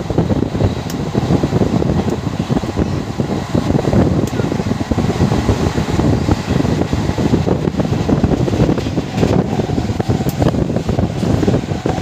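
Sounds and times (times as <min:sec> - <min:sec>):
gusty wind noise: 0:00.0 - 0:12.0
train rumbling: 0:00.0 - 0:12.0.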